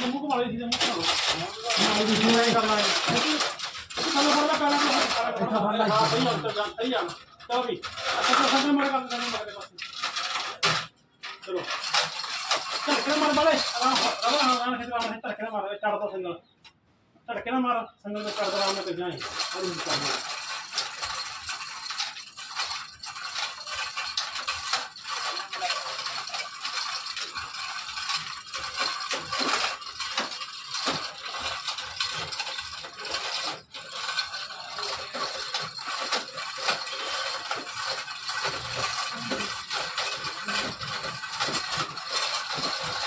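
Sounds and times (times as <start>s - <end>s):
metal chain rattling: 0.0s - 15.2s, 18.2s - 43.0s.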